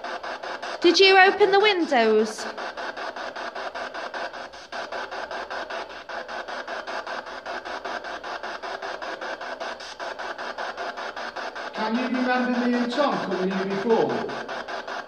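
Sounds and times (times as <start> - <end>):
pulsing radio static: 0.0 - 15.0.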